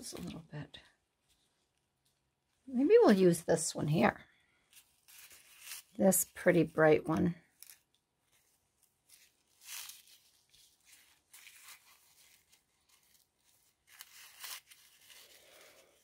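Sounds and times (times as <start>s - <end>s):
soft rustling of craft materials: 0.0s - 16.0s.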